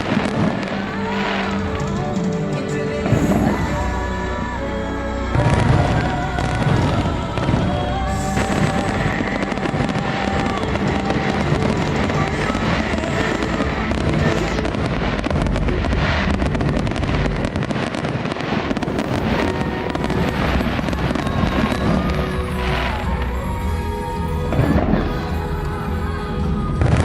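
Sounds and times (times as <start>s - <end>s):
fireworks bangs and crackles: 0.0s - 3.8s, 5.4s - 23.3s
music soundtrack: 0.0s - 27.0s.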